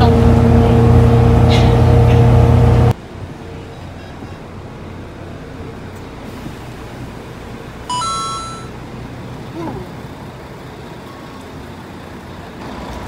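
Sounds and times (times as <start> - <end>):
bus cabin noise: 0.0 - 13.0
bus engine humming: 0.0 - 13.0.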